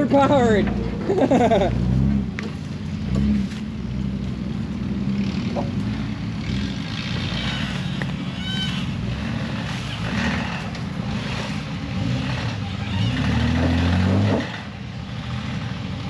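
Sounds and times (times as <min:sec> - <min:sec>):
engine running at low revs: 0:00.0 - 0:16.0.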